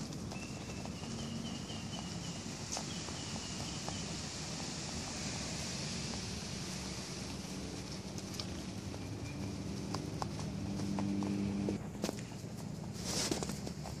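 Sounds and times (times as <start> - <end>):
outdoor hiss and low rumble: 0.0 - 14.0
rabbits nibbling crunchy food: 0.0 - 14.0.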